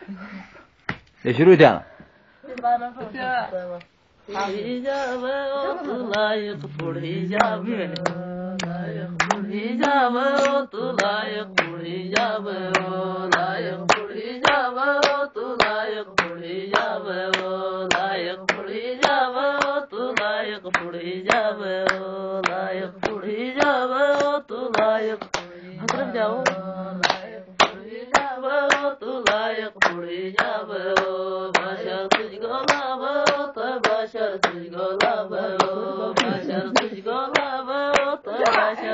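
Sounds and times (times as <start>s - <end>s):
voices singing a folk song: 2.5s - 38.9s
steady handclaps: 6.0s - 38.9s.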